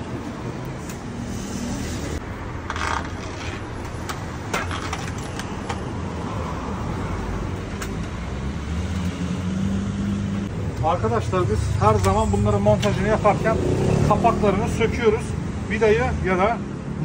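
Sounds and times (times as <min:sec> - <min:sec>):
low street hum: 0:00.0 - 0:17.0.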